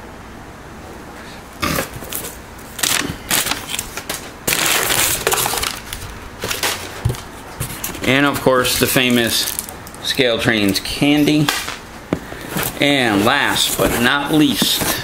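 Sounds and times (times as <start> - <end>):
packing paper rustling: 1.9 - 15.0.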